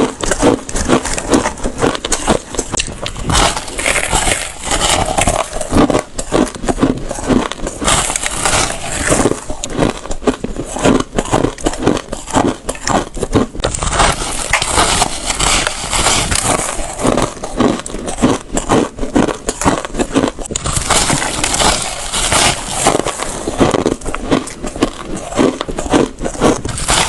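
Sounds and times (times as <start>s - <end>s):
crushed ice being bitten: 0.0s - 27.0s.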